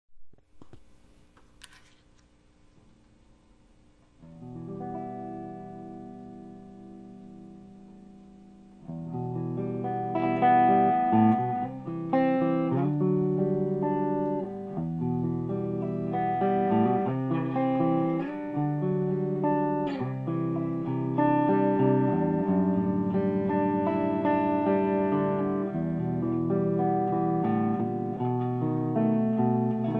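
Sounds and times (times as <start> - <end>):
clean electric guitar: 4.0 - 29.9.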